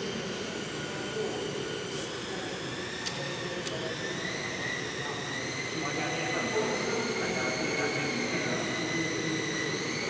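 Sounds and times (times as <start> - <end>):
rc plane motor whine: 0.0 - 10.0.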